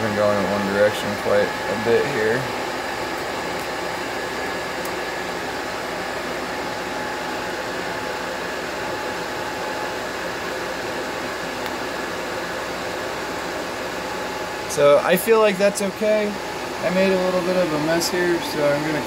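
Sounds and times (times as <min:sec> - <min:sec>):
fan whirring: 0:00.0 - 0:19.0.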